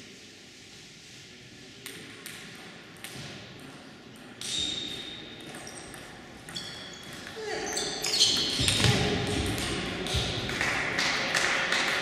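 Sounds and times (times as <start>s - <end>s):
table tennis ball bouncing: 1.8s - 12.0s.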